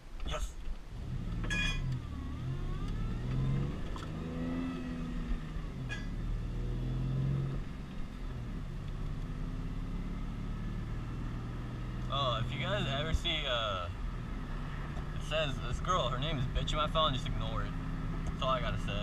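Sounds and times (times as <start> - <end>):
car engine accelerating: 0.9 - 19.0.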